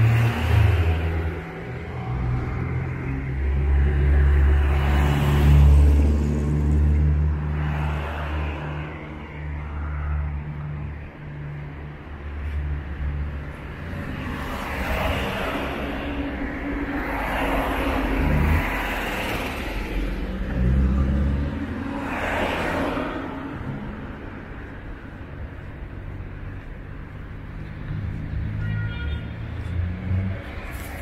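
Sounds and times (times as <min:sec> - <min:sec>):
vehicles passing: 0:00.0 - 0:31.0.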